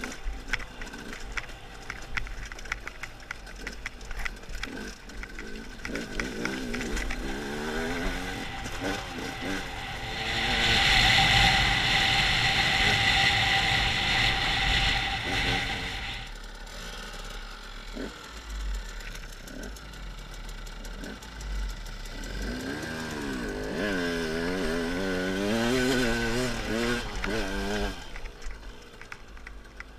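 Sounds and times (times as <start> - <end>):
two-stroke motorcycle revving: 0.0 - 29.9.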